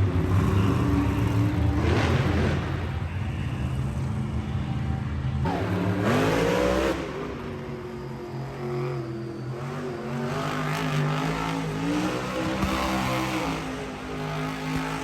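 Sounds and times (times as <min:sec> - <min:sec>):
monster truck engine revving: 0:00.0 - 0:03.0, 0:05.5 - 0:15.0.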